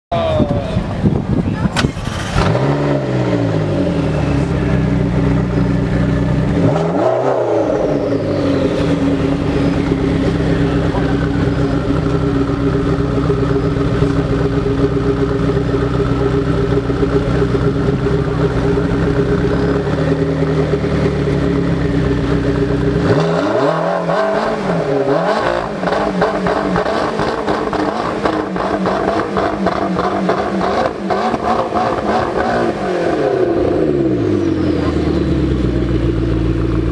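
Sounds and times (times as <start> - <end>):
car engine idling: 1.9 - 36.9.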